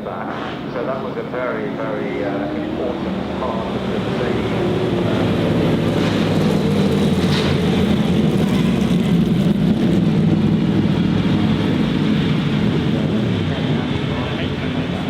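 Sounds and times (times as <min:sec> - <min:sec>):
vehicle engine running: 0:01.6 - 0:15.0.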